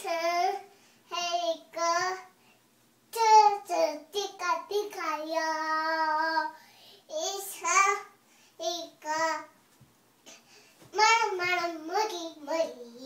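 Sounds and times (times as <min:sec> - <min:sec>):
girl singing: 0:00.0 - 0:02.4, 0:03.1 - 0:09.6, 0:10.9 - 0:13.0.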